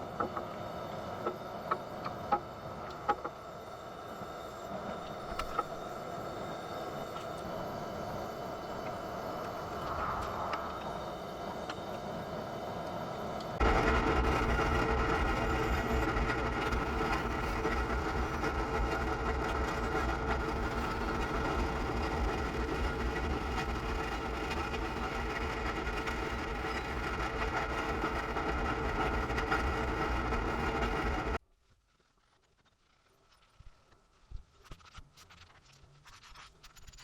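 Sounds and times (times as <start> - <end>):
machine running with low rumble: 0.0 - 31.4.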